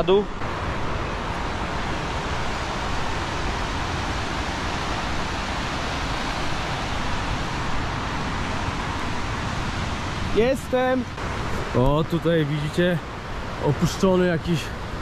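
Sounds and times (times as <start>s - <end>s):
white-water river rushing: 0.0s - 15.0s.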